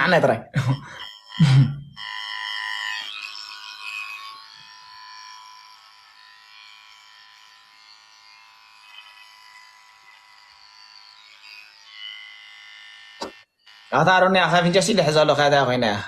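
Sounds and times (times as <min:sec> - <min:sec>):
electric clipper buzzing: 0:00.8 - 0:15.8.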